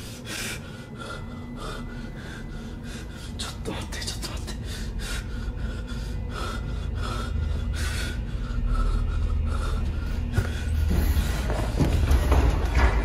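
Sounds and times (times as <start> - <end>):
person breathing heavily: 0.0 - 3.7, 4.6 - 11.9.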